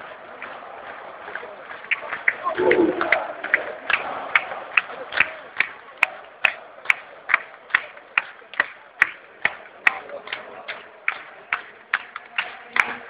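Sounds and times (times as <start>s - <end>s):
crowd clapping in unison: 0.0s - 13.0s
hubbub of fans: 0.0s - 13.0s.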